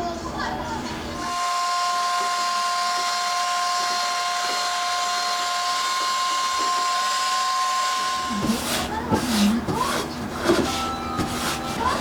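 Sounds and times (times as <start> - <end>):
small electric motor whining: 1.2 - 12.0.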